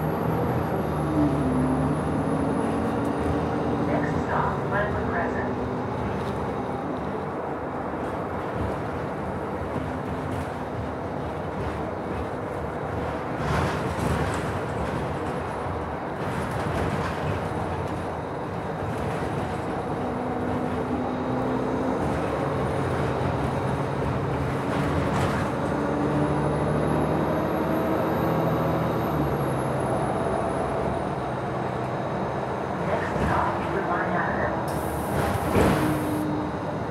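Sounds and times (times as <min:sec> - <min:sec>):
bus engine hum: 0:00.0 - 0:36.9
road rumble: 0:00.0 - 0:36.9.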